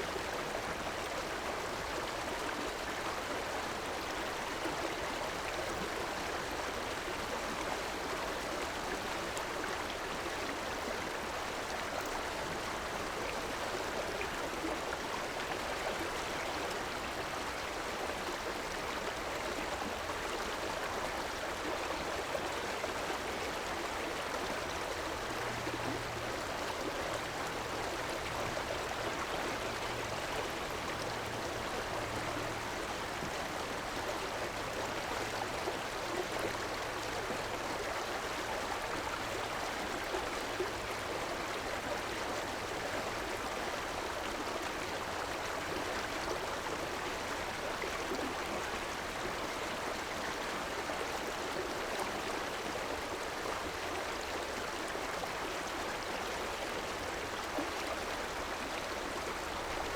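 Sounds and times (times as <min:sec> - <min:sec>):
river water flowing over stones: 0:00.1 - 0:59.9.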